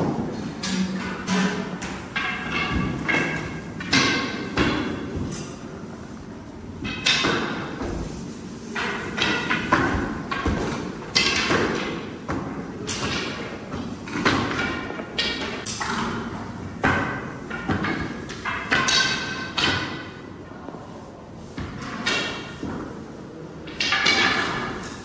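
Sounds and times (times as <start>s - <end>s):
rolling pins knocking on tables: 0.0s - 5.6s, 6.8s - 20.3s, 21.6s - 23.0s, 23.6s - 25.0s.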